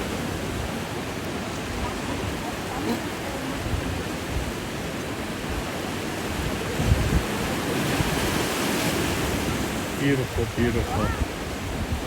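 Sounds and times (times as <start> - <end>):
sea surf rushing against rocks: 0.0 - 12.0
wind buffeting microphone: 0.0 - 12.0.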